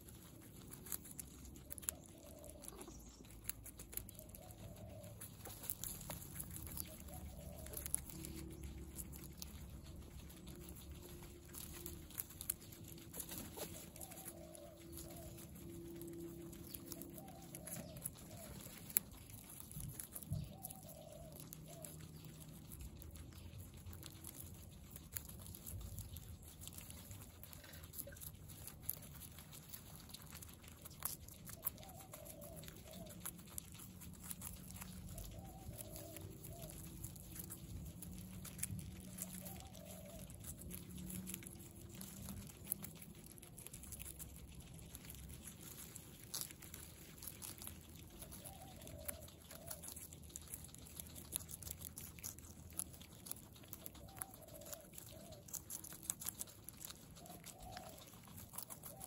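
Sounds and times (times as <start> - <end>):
guinea pig calls: 0.0 - 59.0
guinea pigs crunching carrot: 0.0 - 59.0.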